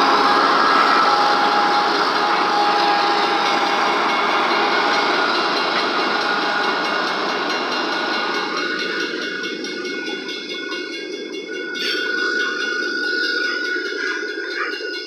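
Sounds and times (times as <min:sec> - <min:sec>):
thin steady tones: 0:00.0 - 0:15.0
train wheels rolling on rails: 0:00.0 - 0:15.0.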